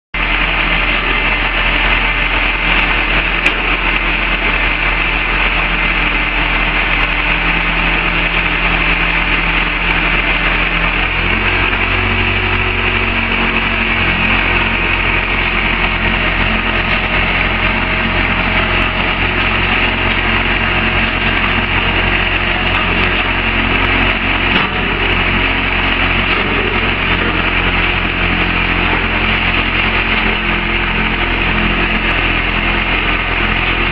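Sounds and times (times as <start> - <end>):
drilling rig engine running: 0.2 - 33.9.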